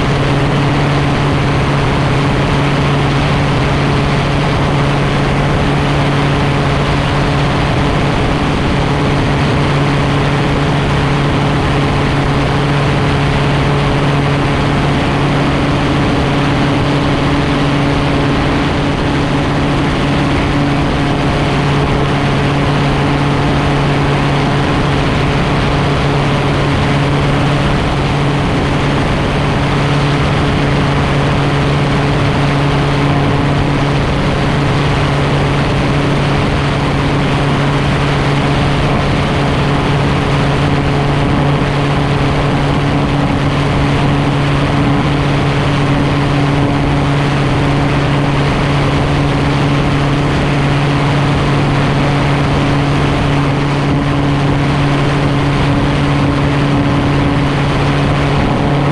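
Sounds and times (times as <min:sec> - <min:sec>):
gyroplane engine and propeller: 0:00.0 - 0:58.9.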